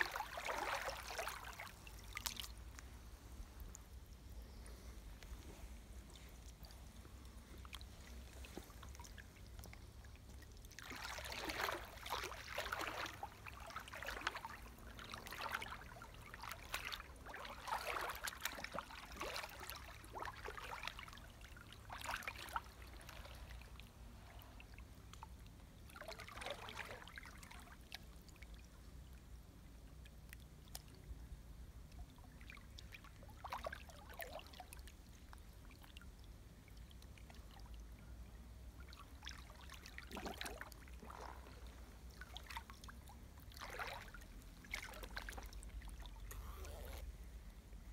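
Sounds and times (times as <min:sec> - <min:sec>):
creek water splashing: 0:00.0 - 0:29.0, 0:30.3 - 0:37.9, 0:38.6 - 0:47.2
low steady rumble: 0:00.0 - 0:47.9.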